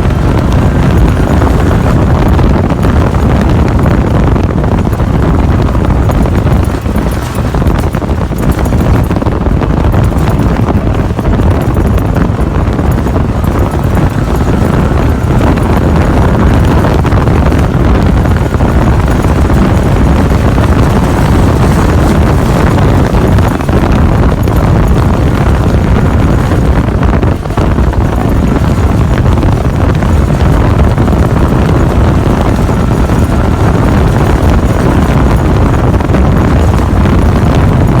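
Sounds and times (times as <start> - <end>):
truck engine running loud: 0.0 - 38.0.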